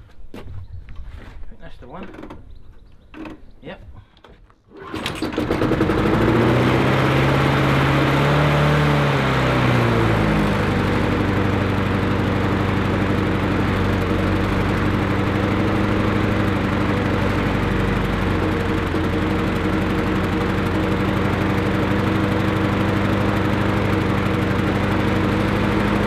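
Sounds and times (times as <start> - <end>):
lawnmower engine starting: 4.7 - 26.0.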